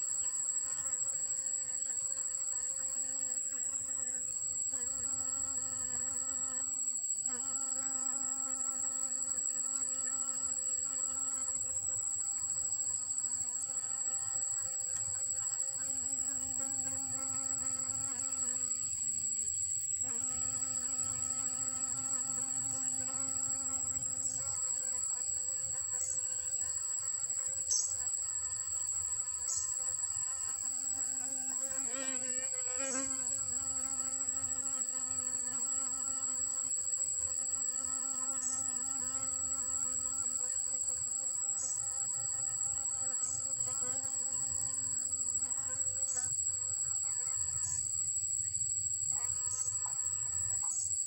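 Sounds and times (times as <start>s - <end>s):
honeybees buzzing: 0.0s - 47.8s.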